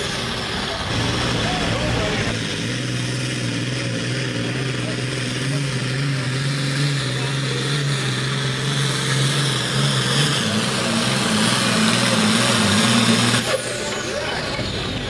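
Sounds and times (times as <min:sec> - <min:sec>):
diesel tractor engine under load: 0:00.0 - 0:15.0.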